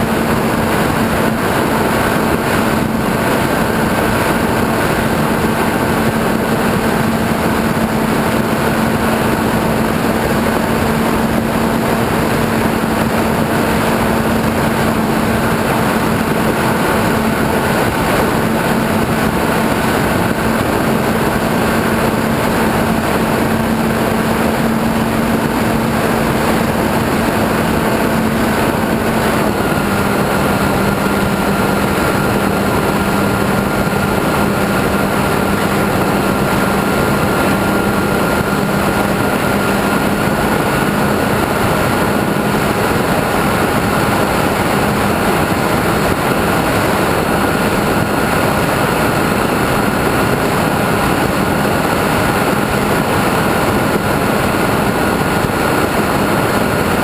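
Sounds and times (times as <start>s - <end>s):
model airplane motor and propeller: 0.0s - 57.0s
wind rushing: 0.0s - 57.0s.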